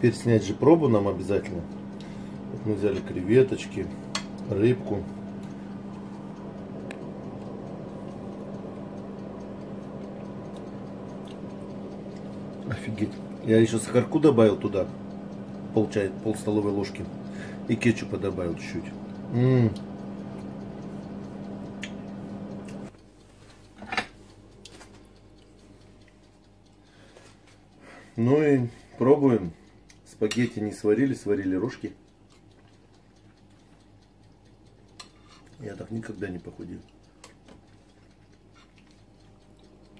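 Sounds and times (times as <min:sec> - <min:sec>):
appliance electrical hum: 0:00.0 - 0:39.9.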